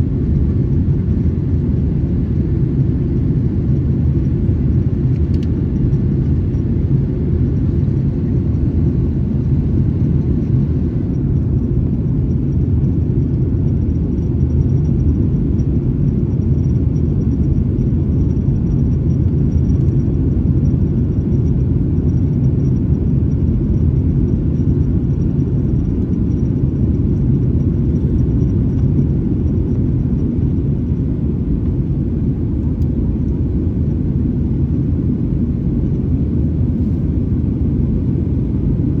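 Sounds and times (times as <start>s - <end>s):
airplane cabin engine rumble: 0.0s - 39.0s
faint high whine: 0.0s - 39.0s.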